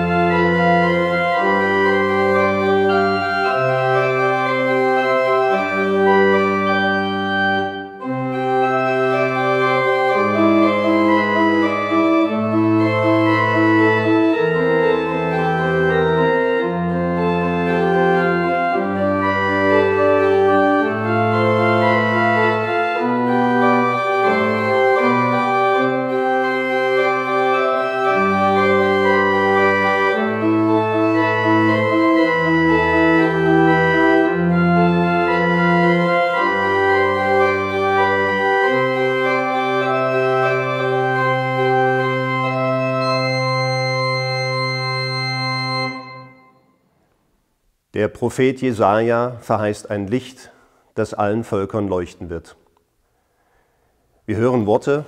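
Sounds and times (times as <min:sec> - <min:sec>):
pipe organ playing: 0:00.0 - 0:46.9, 0:54.2 - 0:55.0.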